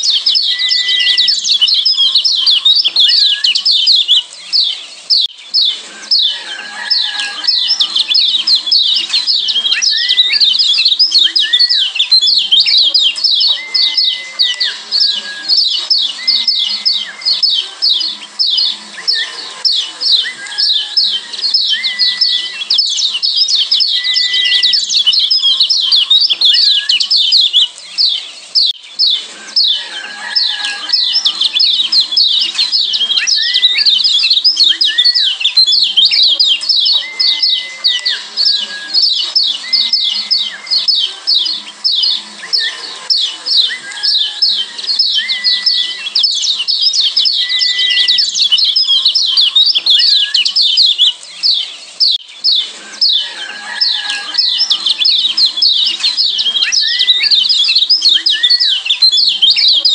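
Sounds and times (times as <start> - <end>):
birds giving rapid high chip calls: 0.0 - 59.9.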